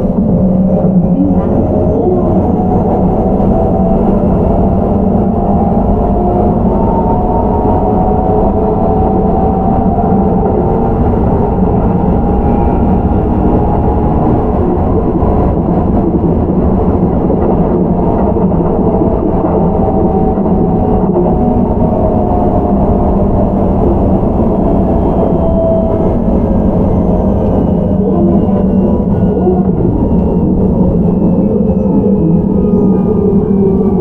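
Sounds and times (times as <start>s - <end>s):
train wheels rolling on rails: 0.0s - 34.0s.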